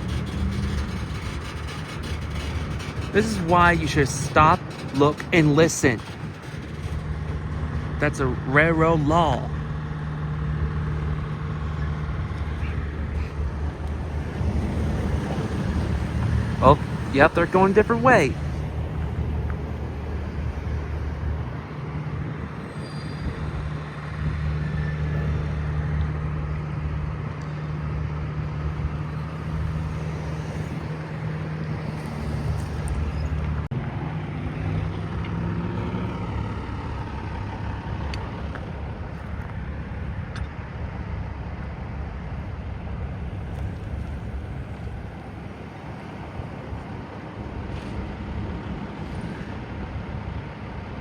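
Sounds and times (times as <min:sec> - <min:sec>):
heavy engine idling: 0:00.0 - 0:33.7, 0:36.0 - 0:51.0
traffic rumble: 0:00.0 - 0:51.0.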